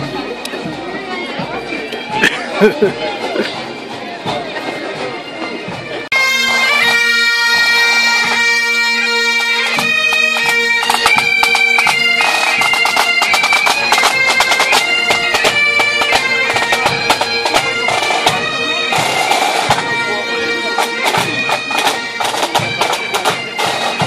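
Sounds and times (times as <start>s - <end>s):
side drums beating: 4.2s - 24.0s
bagpipes playing: 4.7s - 24.0s.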